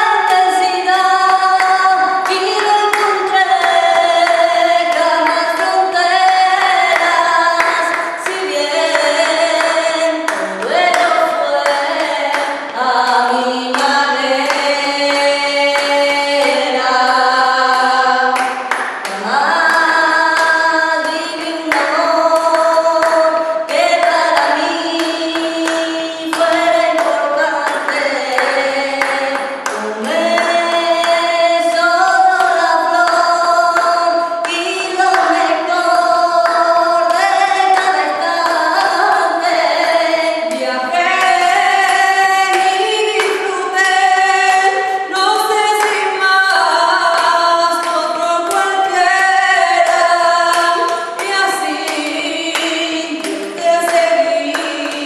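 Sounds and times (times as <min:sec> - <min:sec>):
voices singing in harmony: 0:00.0 - 0:55.0.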